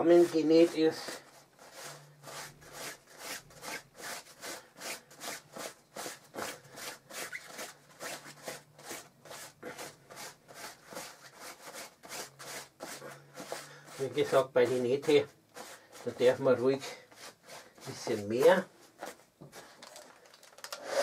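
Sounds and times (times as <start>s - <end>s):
wax block scraping on fabric: 0.0s - 19.7s.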